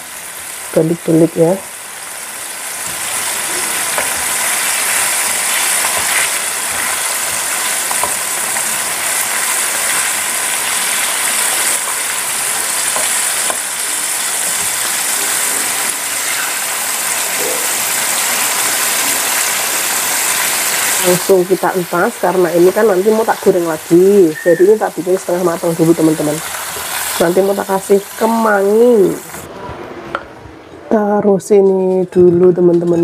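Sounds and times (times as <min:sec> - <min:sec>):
chicken deep-frying in hot oil: 0:00.0 - 0:29.5.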